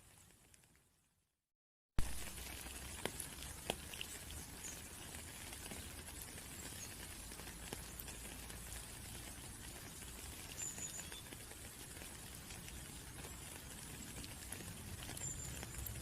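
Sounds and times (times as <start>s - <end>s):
rain pattering: 0.0s - 0.9s, 2.0s - 16.0s
raindrops ticking close by: 0.0s - 0.9s, 2.0s - 16.0s.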